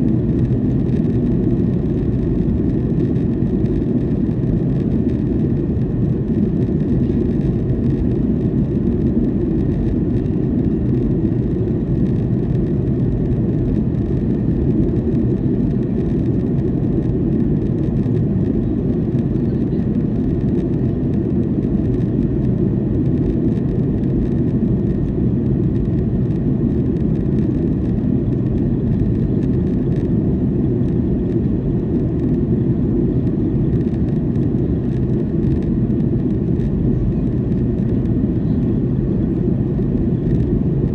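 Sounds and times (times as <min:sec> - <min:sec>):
airflow over fuselage: 0:00.0 - 0:40.9
airplane cabin engine rush: 0:00.0 - 0:40.9.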